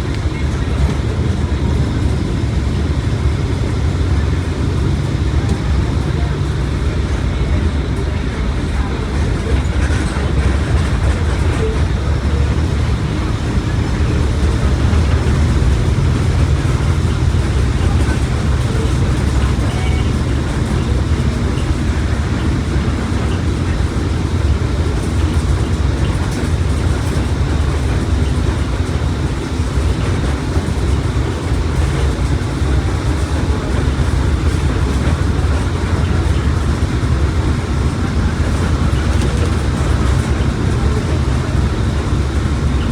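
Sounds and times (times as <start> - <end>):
bus diesel engine rumble: 0.0 - 42.9
road and tyre noise: 0.0 - 42.9.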